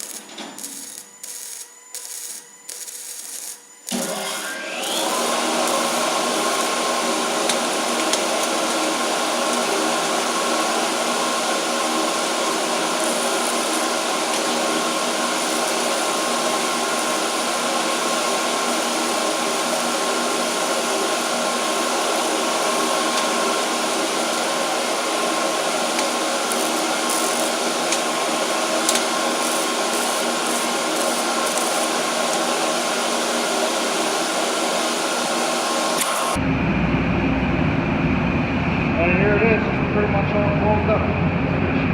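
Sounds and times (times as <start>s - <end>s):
machine droning: 0.0s - 34.3s, 36.0s - 41.9s.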